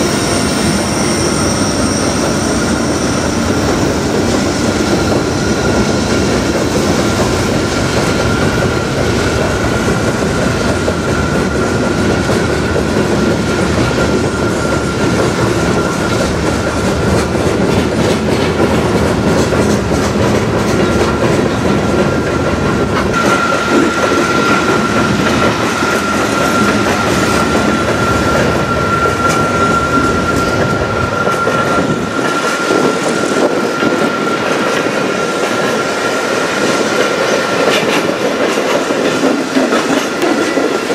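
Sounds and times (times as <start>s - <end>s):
train wheels rumbling over rails: 0.0s - 40.9s.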